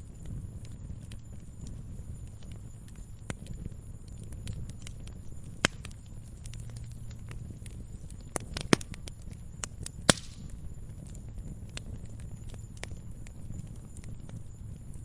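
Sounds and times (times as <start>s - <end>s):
low rumble of flames: 0.0s - 15.0s
sharp fire pops: 0.0s - 15.0s
wood fire crackling: 0.0s - 15.0s.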